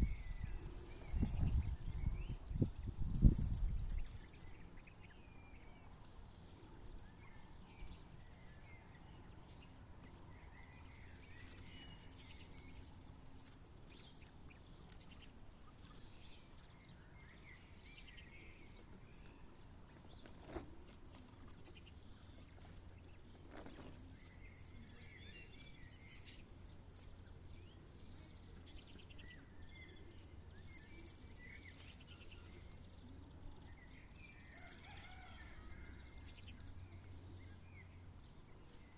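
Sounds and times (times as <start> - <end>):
quails chirping softly: 0.0 - 38.9.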